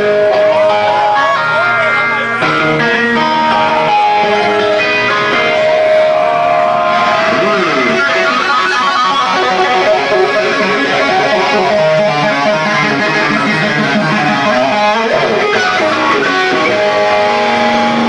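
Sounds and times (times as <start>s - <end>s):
distorted electric guitar: 0.0s - 18.0s.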